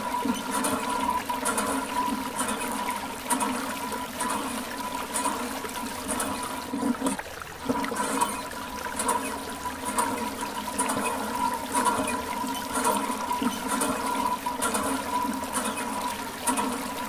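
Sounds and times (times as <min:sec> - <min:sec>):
water from hose splashing: 0:00.0 - 0:17.0.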